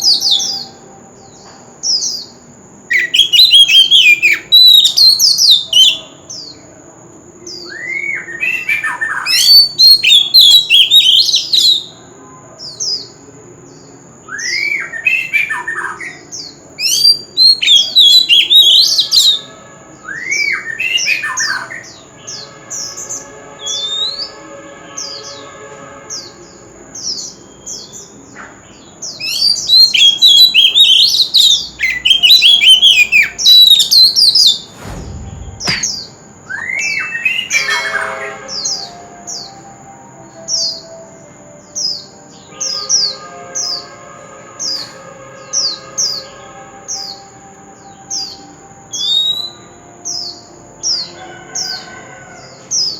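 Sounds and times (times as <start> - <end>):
songbird whistling song: 0.0 - 6.7, 7.4 - 26.3, 26.9 - 52.9.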